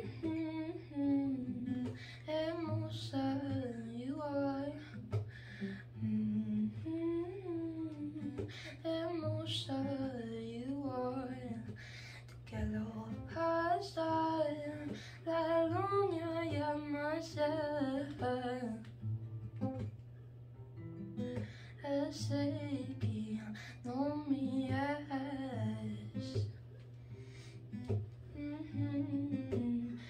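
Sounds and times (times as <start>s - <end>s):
woman singing: 0.0s - 19.0s, 21.4s - 26.6s, 27.8s - 30.0s.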